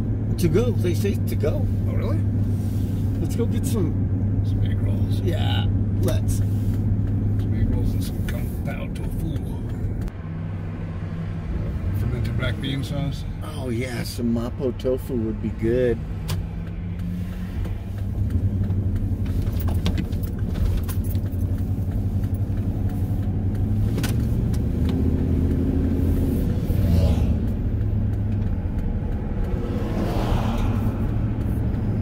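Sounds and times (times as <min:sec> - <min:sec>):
light clicks and rattles in cab: 0:00.0 - 0:10.2, 0:12.0 - 0:32.0
truck engine and road noise: 0:00.0 - 0:32.0.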